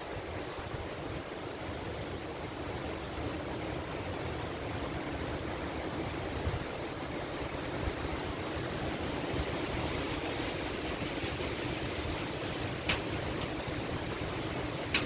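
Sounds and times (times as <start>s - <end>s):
wind blowing through trees: 0.0s - 15.0s
gusts buffeting microphone: 2.8s - 15.0s.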